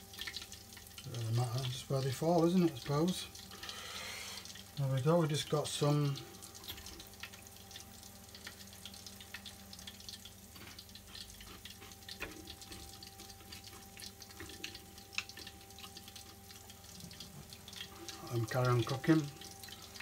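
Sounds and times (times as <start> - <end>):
faint steady hum: 0.0 - 20.0
prawns frying in hot oil: 0.0 - 20.0.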